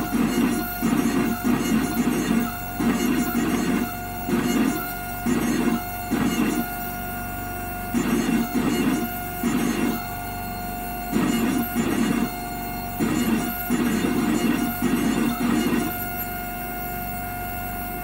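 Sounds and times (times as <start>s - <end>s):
milling motor whine: 0.0s - 18.0s.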